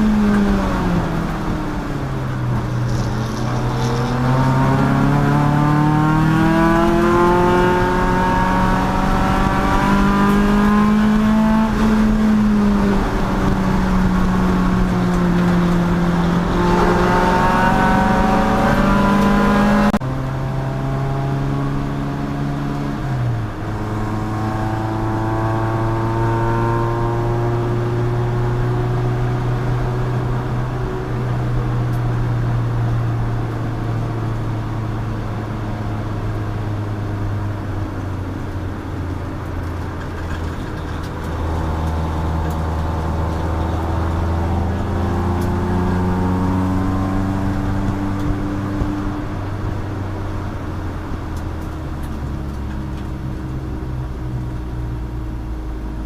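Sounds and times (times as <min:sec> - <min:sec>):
race car engine revving: 0:00.0 - 0:33.5, 0:38.9 - 0:54.8
road and wind noise: 0:00.0 - 0:56.0.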